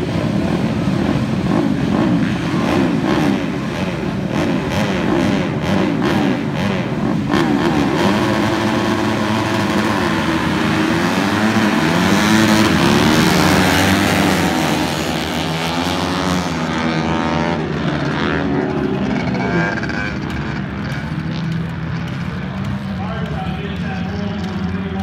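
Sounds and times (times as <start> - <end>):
motorcycles revving and accelerating: 0.0 - 25.0.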